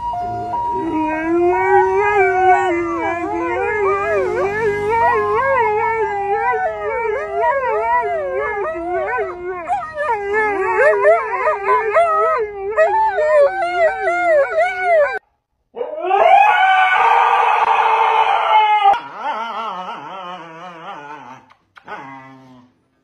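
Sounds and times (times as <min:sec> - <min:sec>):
dogs howling: 0:00.2 - 0:15.2, 0:15.8 - 0:21.5.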